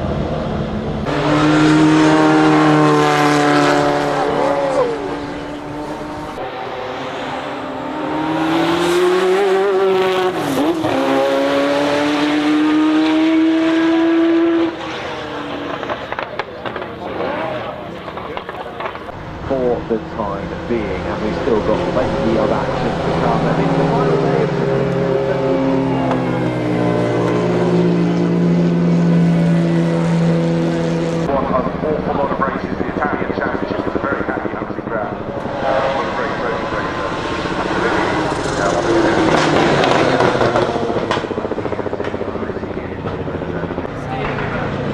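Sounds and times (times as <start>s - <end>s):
race car engine accelerating: 0.0s - 44.9s.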